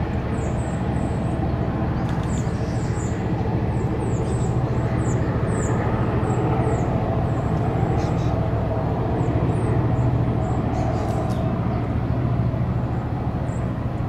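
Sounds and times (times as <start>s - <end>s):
distant gas turbine drone: 0.0s - 14.0s.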